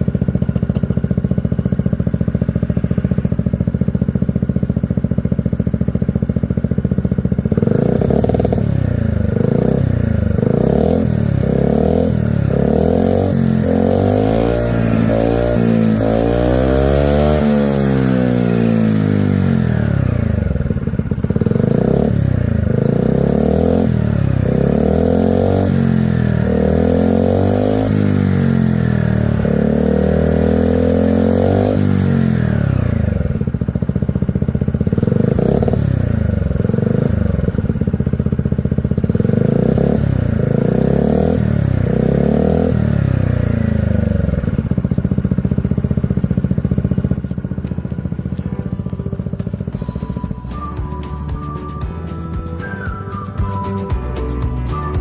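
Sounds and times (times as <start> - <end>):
scooter engine revving: 0.0 - 51.2.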